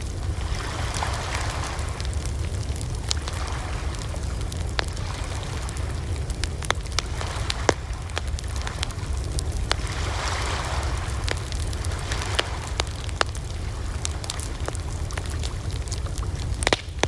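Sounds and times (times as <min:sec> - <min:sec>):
fire popping and snapping: 0:00.0 - 0:17.0
low rumble: 0:00.0 - 0:17.0
wood fire crackling: 0:00.0 - 0:17.0.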